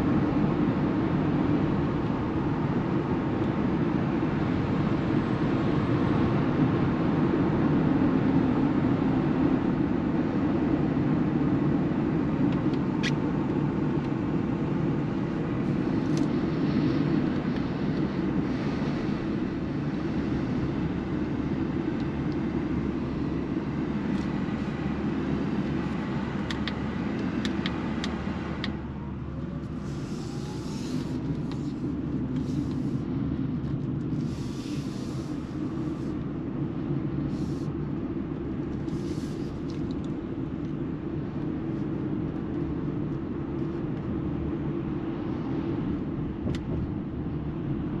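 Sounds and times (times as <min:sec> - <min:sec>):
road and tyre rumble: 0:00.0 - 0:48.0.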